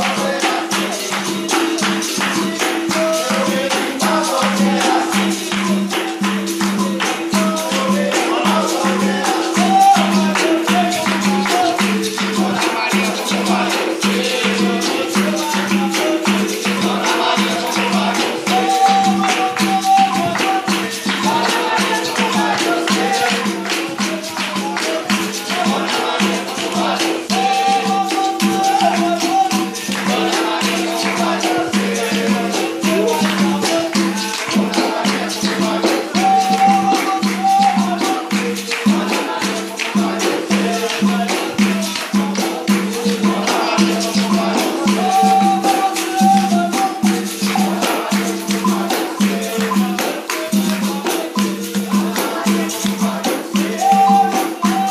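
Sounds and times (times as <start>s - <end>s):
berimbaus playing rhythm: 0.0s - 54.9s
tambourine jingles rattling: 0.0s - 54.9s
voices singing: 0.0s - 54.9s.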